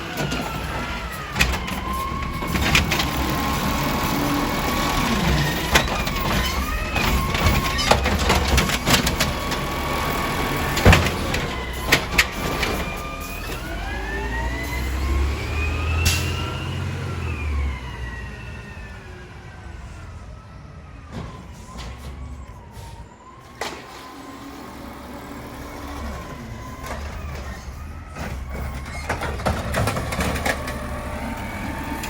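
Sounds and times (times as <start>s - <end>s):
garbage truck engine and hydraulics: 0.0s - 32.0s.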